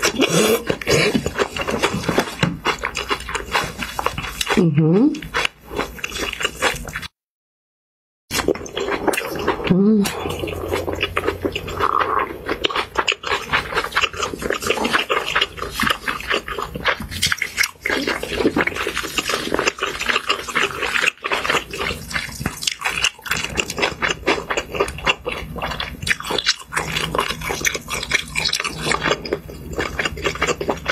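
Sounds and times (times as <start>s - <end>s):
person chewing and crunching: 0.0s - 7.1s, 8.3s - 30.9s.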